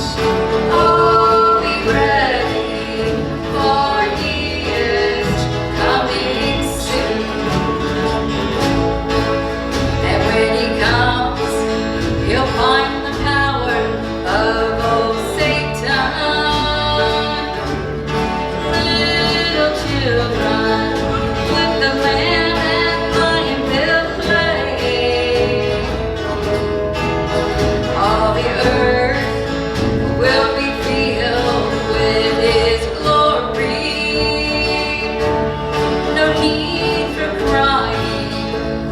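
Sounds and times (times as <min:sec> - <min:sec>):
person singing: 0:00.0 - 0:26.6, 0:27.8 - 0:38.9
band with guitar and bass: 0:00.0 - 0:38.9.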